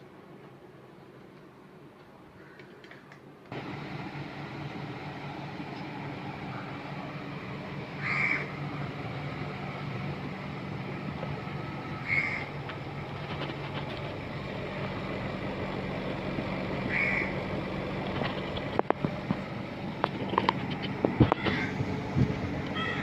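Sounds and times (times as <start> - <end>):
air conditioner humming: 3.2 - 23.0.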